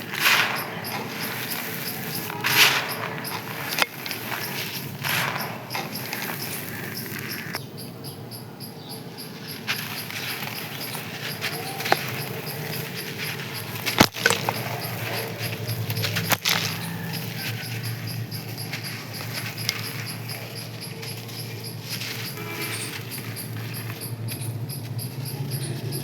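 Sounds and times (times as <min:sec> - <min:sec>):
dry crust crunching: 0:00.0 - 0:07.6, 0:09.0 - 0:26.0.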